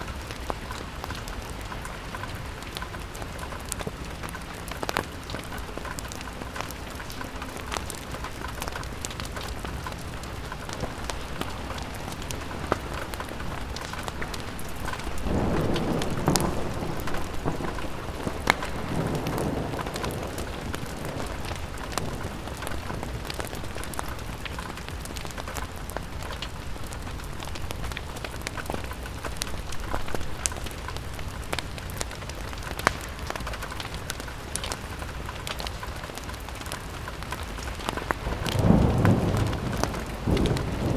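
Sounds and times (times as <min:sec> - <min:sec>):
rain on a window: 0:00.0 - 0:40.9
sharp ticks and crackles: 0:00.2 - 0:40.9.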